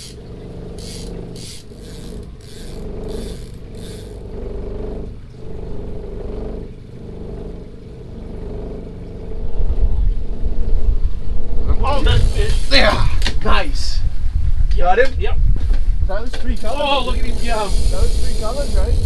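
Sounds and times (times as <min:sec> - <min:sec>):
outboard motor running: 0:00.0 - 0:14.5, 0:15.7 - 0:19.0.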